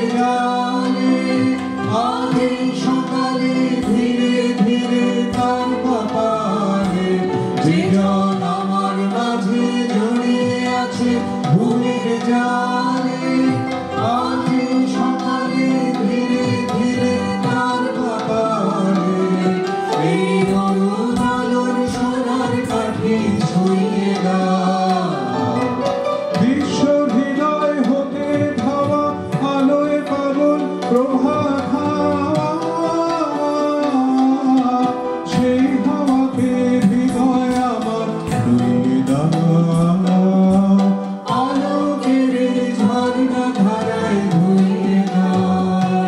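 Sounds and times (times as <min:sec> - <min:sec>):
harmonium: 0:00.0 - 0:46.0
keyboard playing melody: 0:00.0 - 0:46.0
tabla drumming: 0:00.0 - 0:46.0.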